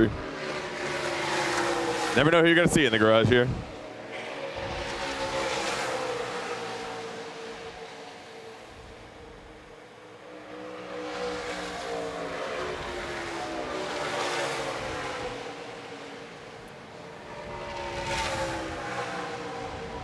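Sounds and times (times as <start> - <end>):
race trucks passing by: 0.0 - 20.0.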